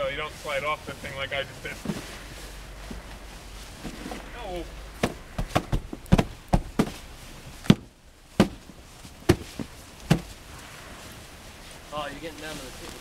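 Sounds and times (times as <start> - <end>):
gloved hands patting snow: 0.0 - 13.0.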